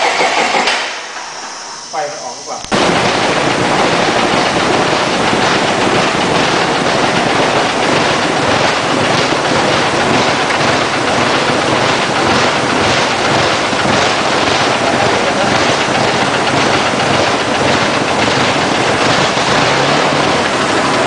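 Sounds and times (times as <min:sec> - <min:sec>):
engine running loudly: 0:00.0 - 0:21.0.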